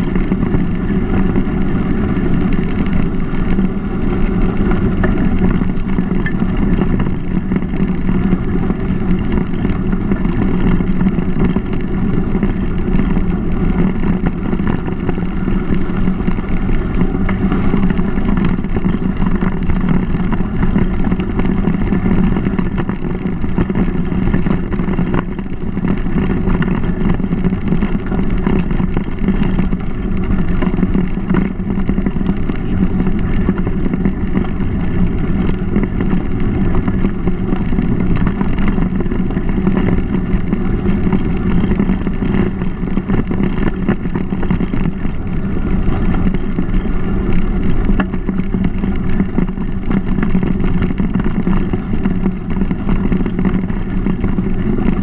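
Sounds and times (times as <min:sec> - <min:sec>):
bike tyres on dirt trail: 0:00.0 - 0:55.0
wind buffeting microphone: 0:00.0 - 0:55.0.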